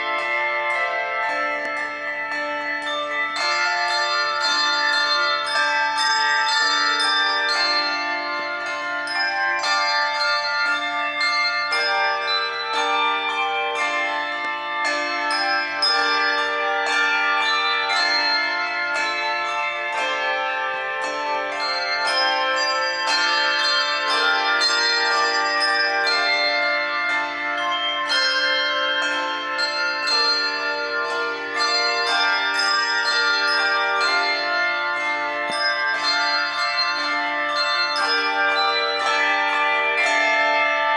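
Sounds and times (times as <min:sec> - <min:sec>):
handbell choir playing: 0:00.0 - 0:40.9.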